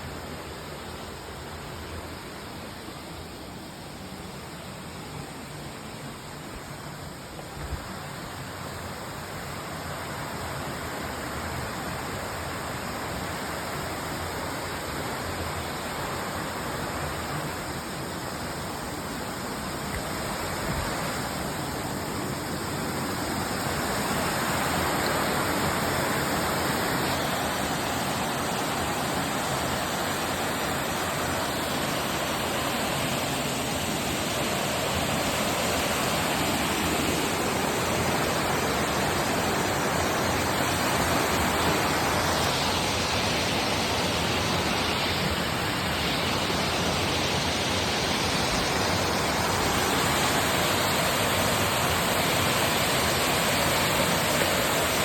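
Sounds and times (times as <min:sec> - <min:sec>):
waterfall rushing: 0:05.4 - 0:55.0.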